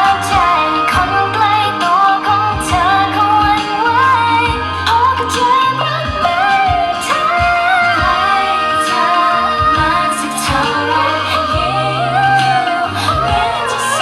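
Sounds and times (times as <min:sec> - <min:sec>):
steady drum beat: 0:00.0 - 0:14.0
synth bass: 0:00.0 - 0:14.0
woman singing: 0:00.0 - 0:14.0.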